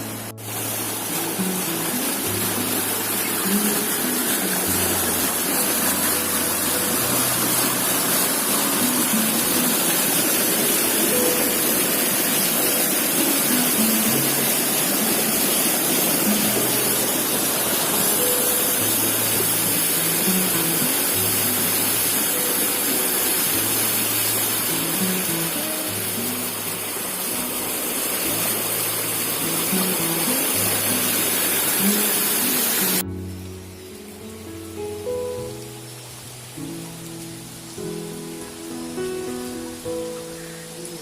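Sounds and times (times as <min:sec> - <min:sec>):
floodwater rushing: 0:00.0 - 0:41.0
slow low background music: 0:00.0 - 0:41.0.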